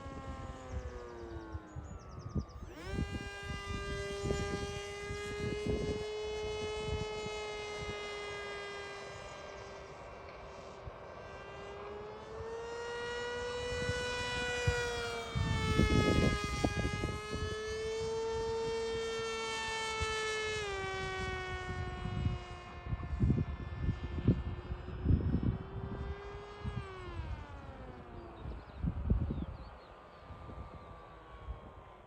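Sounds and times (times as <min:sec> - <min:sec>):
electric plane motor whining: 0:00.0 - 0:32.0
wind buffeting microphone: 0:00.0 - 0:32.0.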